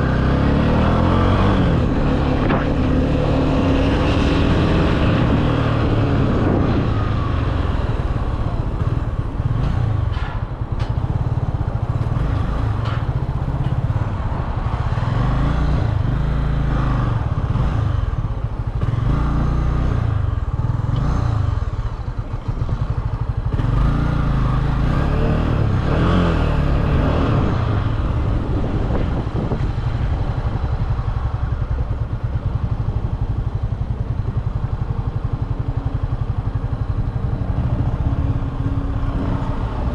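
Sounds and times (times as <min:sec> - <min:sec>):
motorcycle engine revving: 0:00.0 - 0:10.5, 0:11.1 - 0:39.9.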